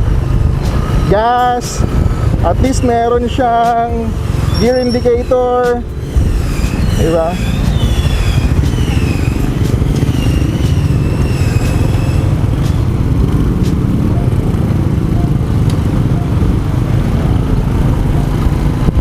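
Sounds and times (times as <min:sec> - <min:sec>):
thin wavering high tone: 0:00.0 - 0:18.4
motorcycle engine running: 0:00.0 - 0:19.0
wind and road noise: 0:00.0 - 0:19.0.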